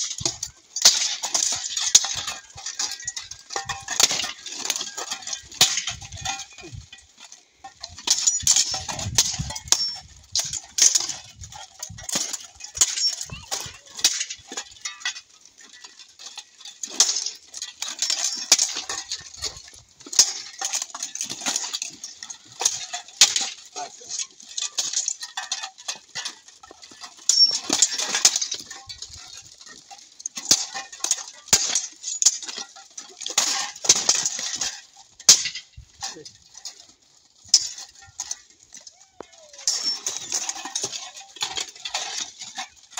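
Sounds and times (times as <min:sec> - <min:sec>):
plate armour clanking: 0:00.0 - 0:38.8, 0:39.5 - 0:42.9.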